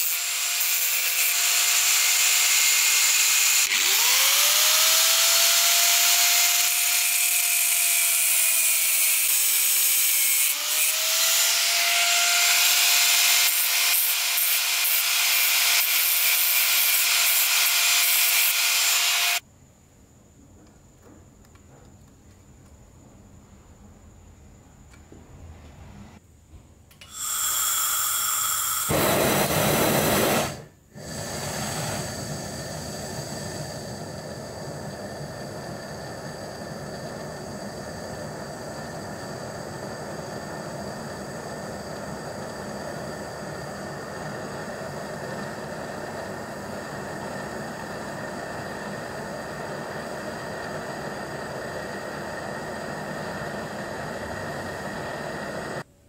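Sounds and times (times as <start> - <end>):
gas torch flame hissing: 0.0 - 19.4, 26.9 - 55.9.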